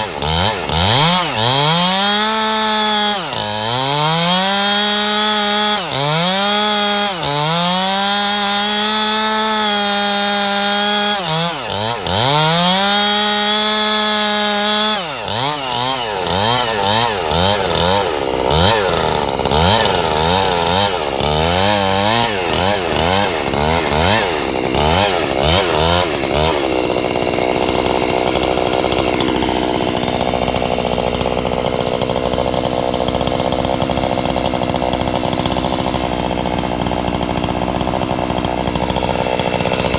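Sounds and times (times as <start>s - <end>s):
chainsaw ripping a log: 0.0s - 39.9s.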